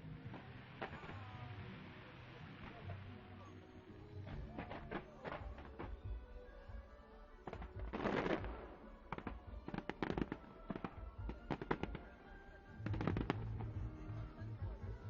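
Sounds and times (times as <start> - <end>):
fireworks crackling and banging: 0.0 - 6.2, 7.4 - 14.9.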